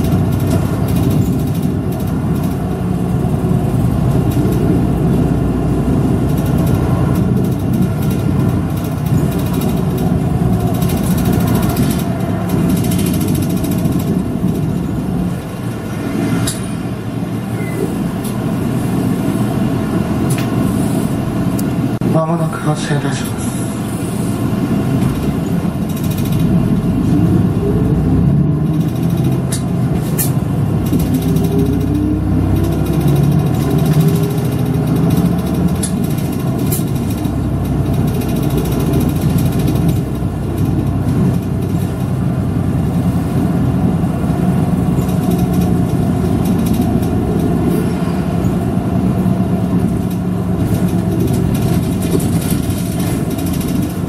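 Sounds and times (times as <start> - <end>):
bus engine running: 0.0 - 54.0
road and cabin noise: 0.0 - 54.0.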